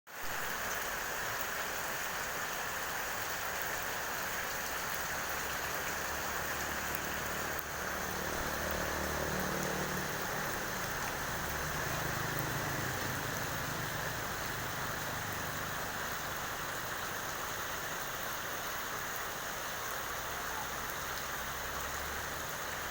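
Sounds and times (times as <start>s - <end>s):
rain pattering on surfaces: 0.1s - 22.9s.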